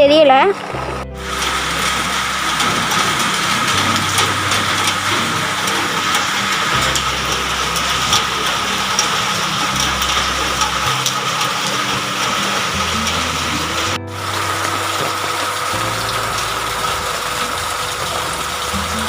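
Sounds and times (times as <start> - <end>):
low hum changing pitch: 0.0 - 19.0
rainwater rushing in downpipe: 0.0 - 19.0
steady rain: 0.5 - 19.0.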